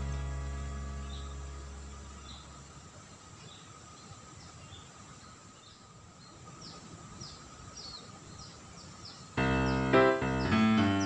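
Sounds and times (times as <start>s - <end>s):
bird chirping: 0.0s - 11.0s
insects humming: 0.0s - 11.0s.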